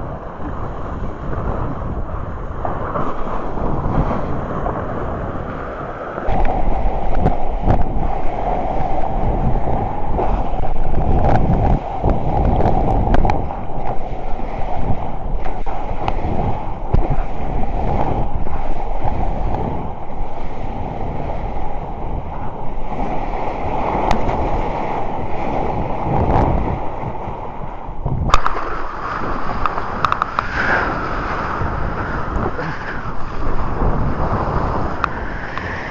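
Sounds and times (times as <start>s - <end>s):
ocean surf rushing: 0.0s - 35.9s
wind buffeting microphone: 0.0s - 35.9s.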